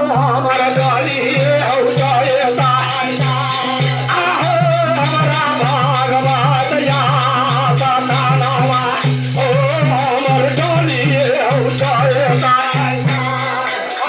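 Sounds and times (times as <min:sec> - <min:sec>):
man singing: 0:00.0 - 0:14.0
shaken rattle: 0:00.1 - 0:14.0.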